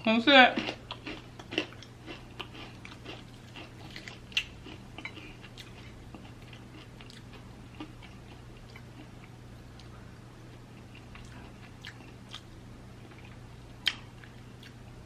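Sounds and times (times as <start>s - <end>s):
low steady hum: 0.0s - 15.0s
chewing with mouth clicks: 0.6s - 10.0s, 10.7s - 14.8s.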